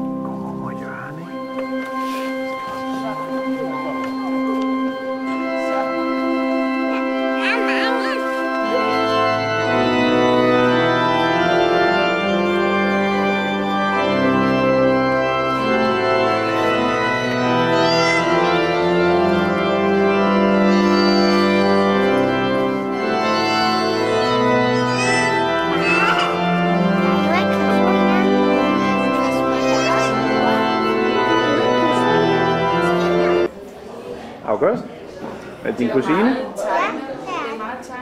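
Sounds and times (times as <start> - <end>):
church organ chords: 0.0 - 33.5.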